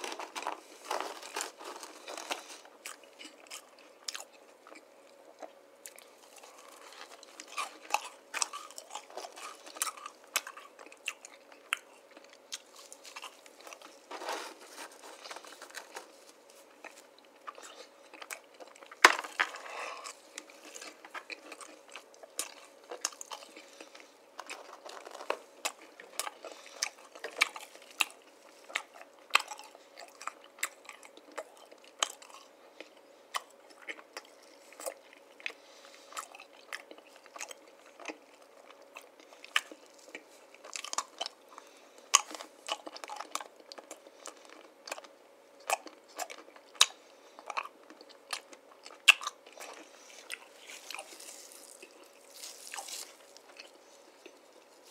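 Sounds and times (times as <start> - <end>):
chewing and crunching candy: 0.0 - 54.9.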